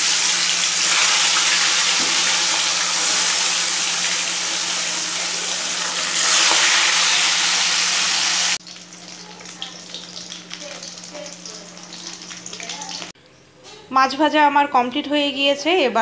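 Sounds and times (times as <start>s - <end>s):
fish sizzling in hot oil: 0.0s - 13.1s.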